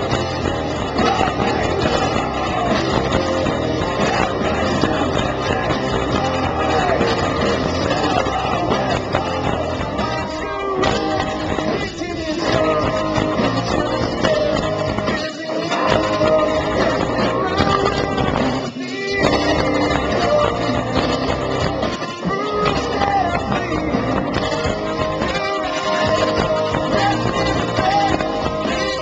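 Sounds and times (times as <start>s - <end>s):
bass guitar: 0.0s - 29.0s
drums: 0.0s - 29.0s
electric guitar: 0.0s - 29.0s
man singing: 0.0s - 29.0s.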